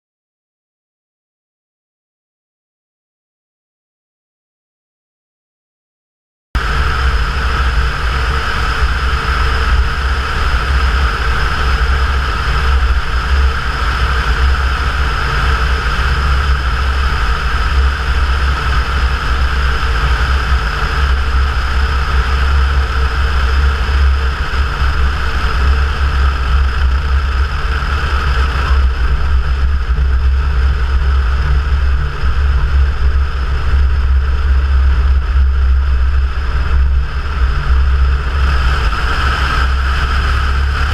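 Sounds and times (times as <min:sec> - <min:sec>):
airplane engine drone: 0:06.6 - 0:40.9.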